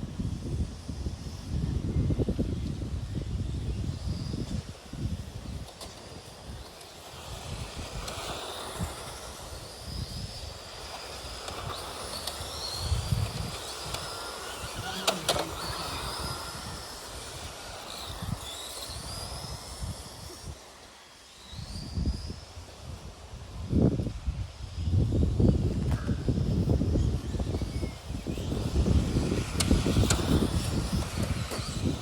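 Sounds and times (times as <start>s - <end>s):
electric motors whining: 0.0s - 32.0s
wind rumble on microphone: 0.0s - 32.0s.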